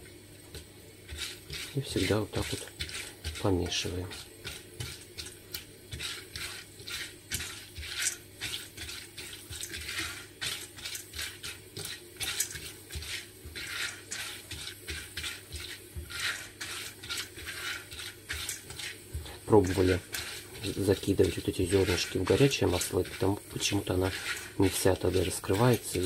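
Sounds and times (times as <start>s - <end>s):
oil sizzling: 0.0s - 26.0s
spatula scraping metal pot: 1.0s - 26.0s.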